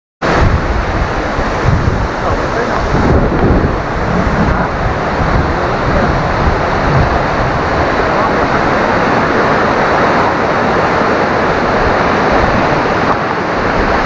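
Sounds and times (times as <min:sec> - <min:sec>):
waterfall roaring: 0:00.2 - 0:14.0.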